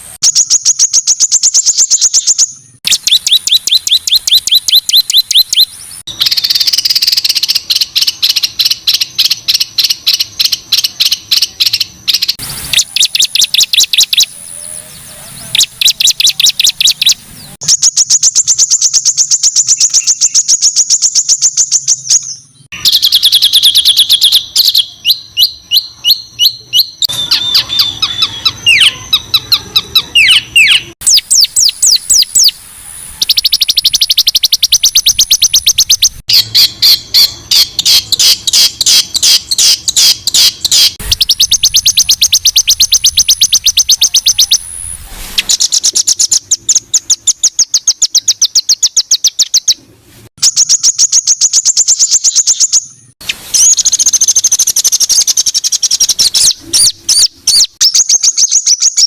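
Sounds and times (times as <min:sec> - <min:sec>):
songbird harsh high-pitched song: 0:00.0 - 0:59.0.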